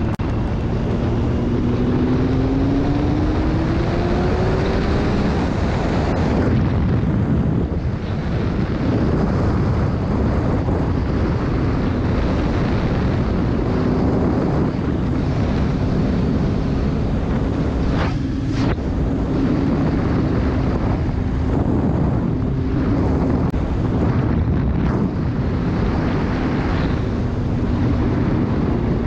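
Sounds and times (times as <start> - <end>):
motorcycle engine drone: 0.0 - 29.0
wind buffeting microphone: 0.0 - 29.0.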